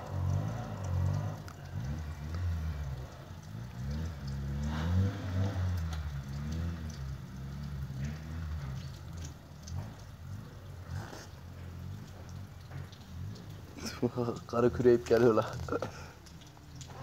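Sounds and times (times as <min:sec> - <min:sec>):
car engine revving: 0:00.0 - 0:15.8
tyres churning snow: 0:00.0 - 0:16.0.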